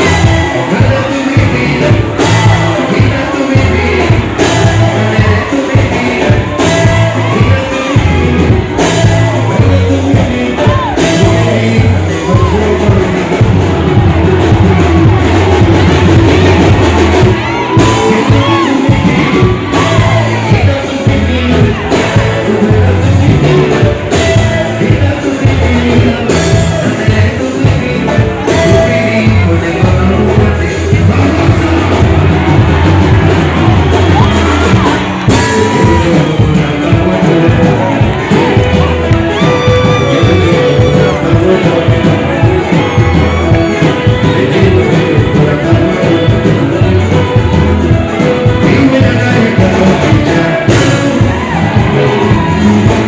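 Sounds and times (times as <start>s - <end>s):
heavy pulsing bass line: 0.0s - 53.0s
live band with singing: 0.0s - 53.0s.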